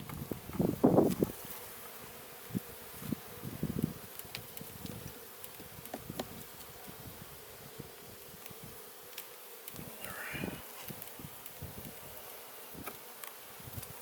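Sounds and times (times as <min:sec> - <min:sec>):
bees buzzing: 0:00.2 - 0:14.0.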